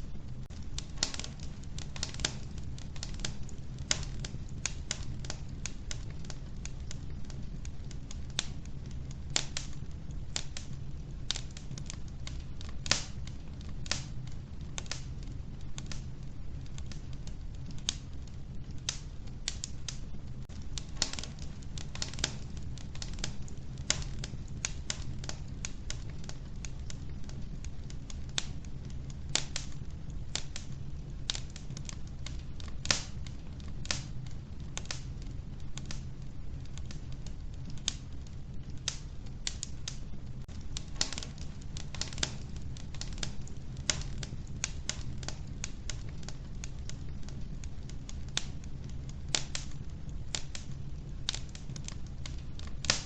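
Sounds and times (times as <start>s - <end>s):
low steady rumble: 0.0s - 53.0s
wood fire crackling and popping: 0.0s - 53.0s.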